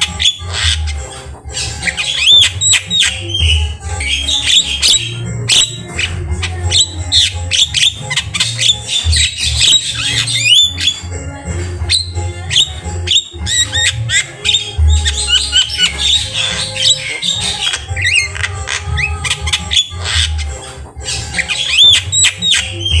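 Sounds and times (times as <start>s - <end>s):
bird singing whistles and squawks: 0.0s - 11.2s, 11.9s - 23.0s.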